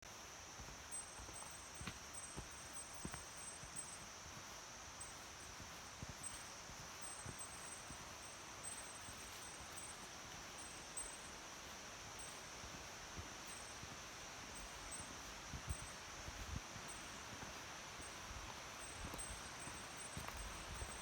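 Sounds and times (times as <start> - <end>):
high insect drone: 0.1 - 21.0.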